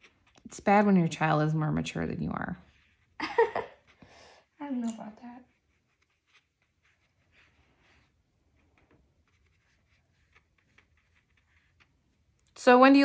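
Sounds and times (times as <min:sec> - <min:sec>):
brush strokes on paper: 0:00.0 - 0:12.4.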